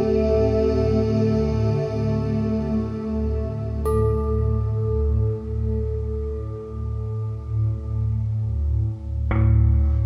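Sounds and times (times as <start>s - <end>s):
ambient meditation music: 0.0s - 10.0s.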